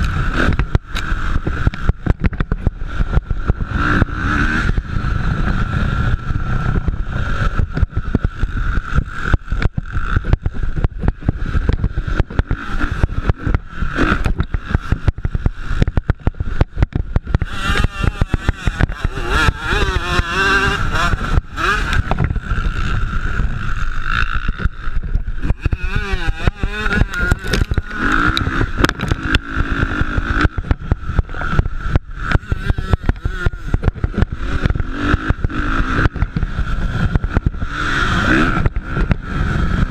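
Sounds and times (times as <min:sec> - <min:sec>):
close bike engine rising and falling: 0:00.0 - 0:39.9
dirt bikes revving: 0:00.0 - 0:39.9.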